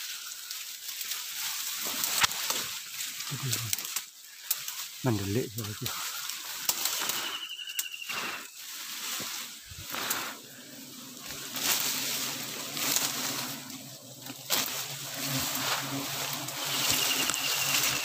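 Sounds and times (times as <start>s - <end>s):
honeybees buzzing: 0.0s - 18.0s
leaves and brush rustling: 0.0s - 18.0s.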